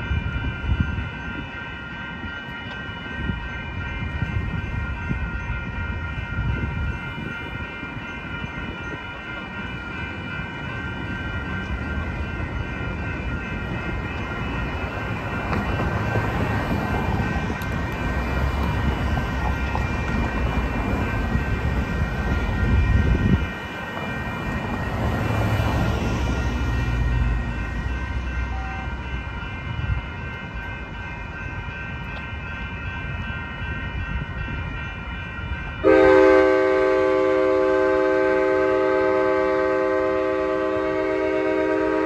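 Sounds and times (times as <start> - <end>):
crossing warning bells ringing: 0.0 - 42.0.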